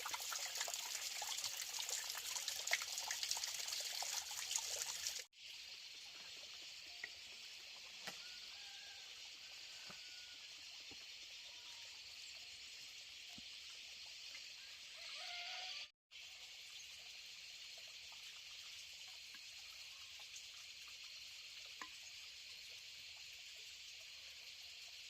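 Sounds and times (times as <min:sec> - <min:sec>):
high outdoor hiss: 0:00.0 - 0:25.0.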